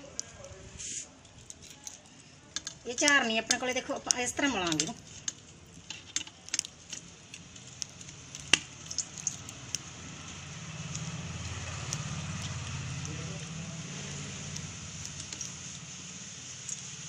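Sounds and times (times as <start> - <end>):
oil sizzling: 0.8 - 17.0.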